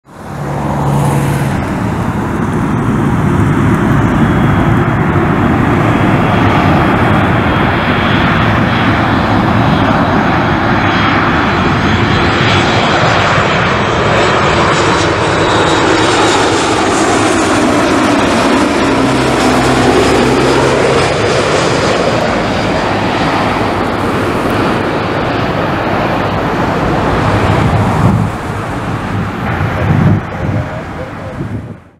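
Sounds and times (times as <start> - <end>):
jet rumble and rush: 0.1 - 31.9
thin high jet whine: 0.1 - 31.9.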